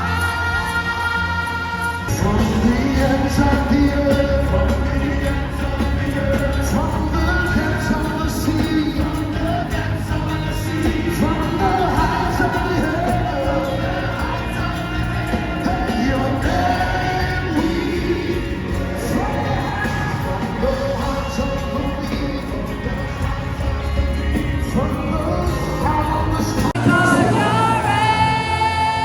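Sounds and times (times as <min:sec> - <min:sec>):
live worship music with singing: 0:00.0 - 0:29.0.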